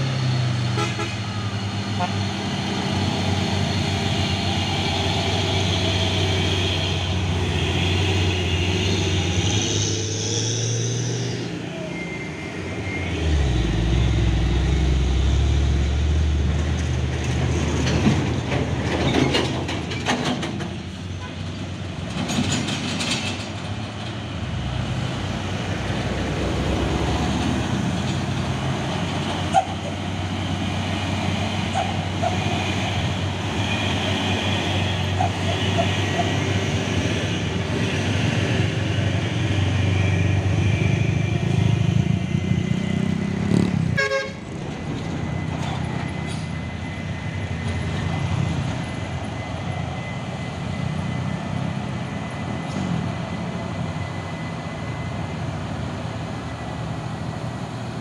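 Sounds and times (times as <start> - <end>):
trucks and cars passing: 0.0 - 58.0.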